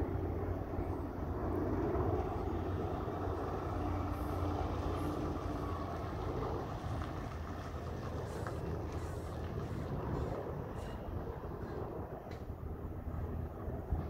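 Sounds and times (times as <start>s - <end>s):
truck driving away: 0.0s - 11.9s.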